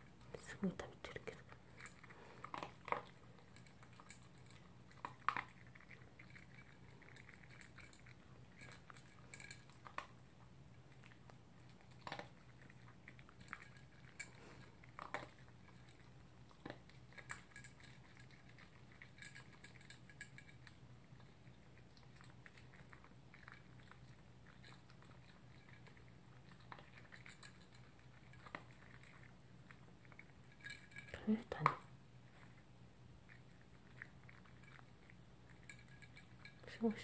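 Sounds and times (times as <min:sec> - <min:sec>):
dog chewing and crunching: 0:00.0 - 0:37.0.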